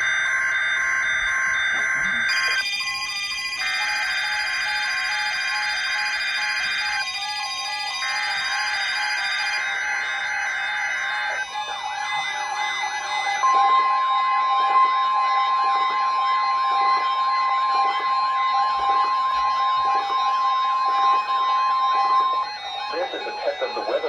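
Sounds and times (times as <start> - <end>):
steady warning alarm tone: 0.0 - 24.0
shrill raspy digital data header: 1.8 - 24.0.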